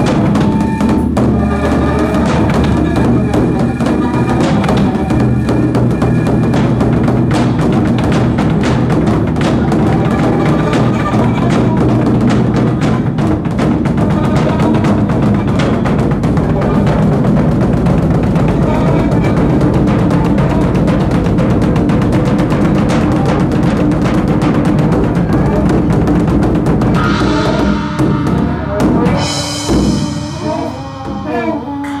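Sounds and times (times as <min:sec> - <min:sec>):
large barrel drum beaten rapidly: 0:00.0 - 0:31.5
percussion ensemble drumming: 0:00.0 - 0:32.0.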